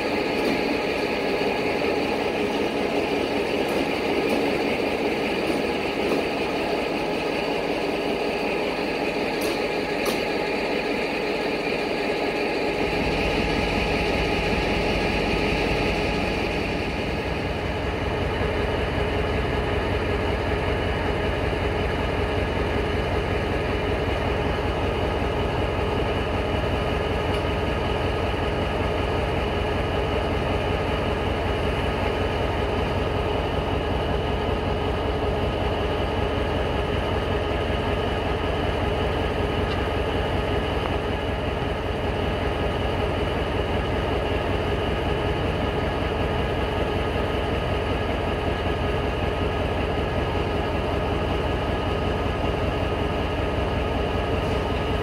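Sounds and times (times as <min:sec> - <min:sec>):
electric train moving off: 0:00.0 - 0:55.0
railway engine idling: 0:00.0 - 0:55.0.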